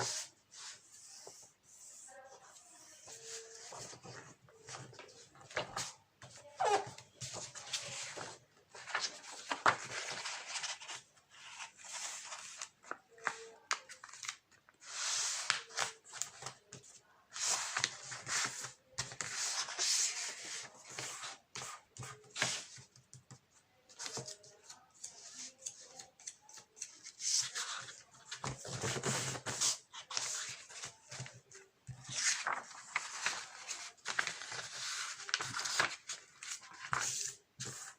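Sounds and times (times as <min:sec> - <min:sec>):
paper rustling and scraping: 0:00.0 - 0:16.6, 0:24.0 - 0:37.9.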